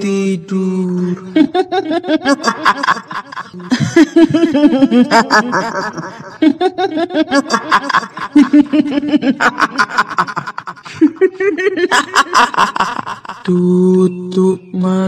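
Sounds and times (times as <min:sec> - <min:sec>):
woman cackling laugh: 0:01.4 - 0:13.5.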